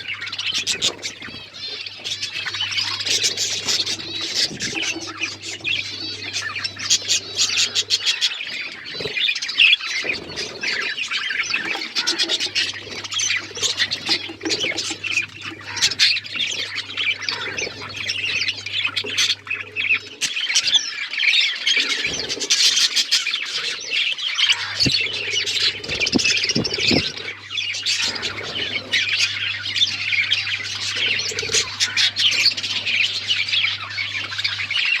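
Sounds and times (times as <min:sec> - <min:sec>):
low steady hum: 0:00.0 - 0:22.6, 0:23.5 - 0:35.0
budgies and lovebirds chirping: 0:00.0 - 0:35.0.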